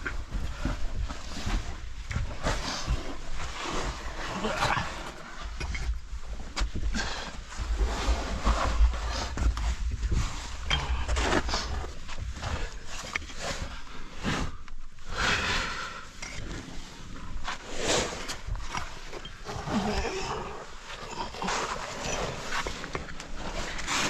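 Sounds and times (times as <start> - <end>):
scraping and rustling on rock: 0.0 - 24.0.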